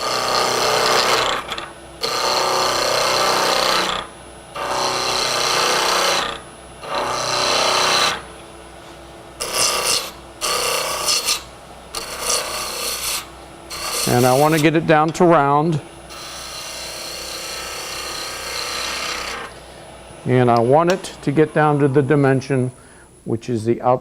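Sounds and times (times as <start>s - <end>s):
lathe tool cutting wood: 0.0s - 8.4s, 9.4s - 19.6s, 20.3s - 22.7s
lathe motor hum: 0.0s - 22.7s.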